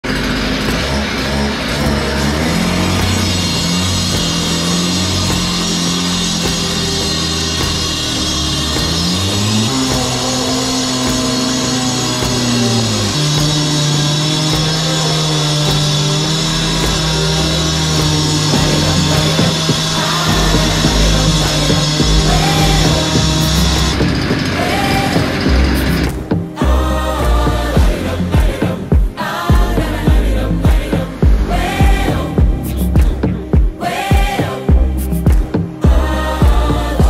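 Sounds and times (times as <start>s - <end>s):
bass line: 0.0s - 37.0s.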